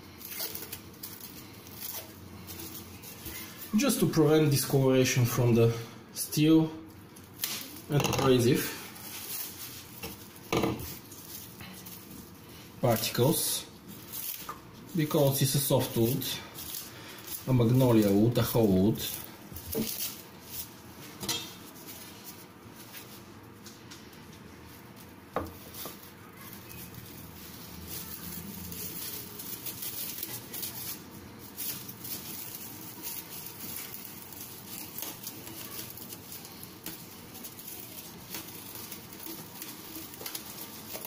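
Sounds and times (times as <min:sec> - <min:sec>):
plastic film crinkling: 0:00.0 - 0:41.0.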